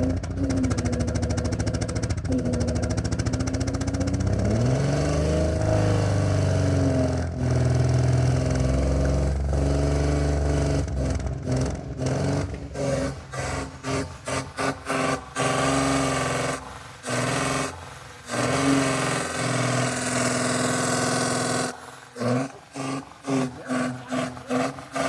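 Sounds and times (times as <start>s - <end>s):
car engine revving and misfiring: 0.0s - 25.0s.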